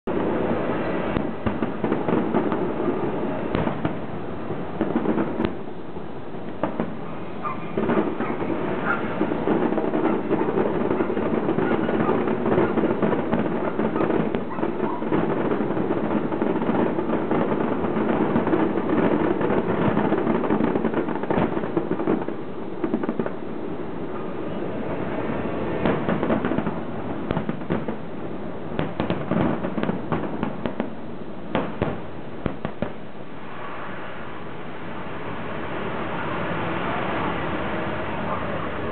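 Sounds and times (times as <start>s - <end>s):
distant fireworks crackling: 0.0s - 38.9s
fireworks bangs: 0.0s - 38.9s.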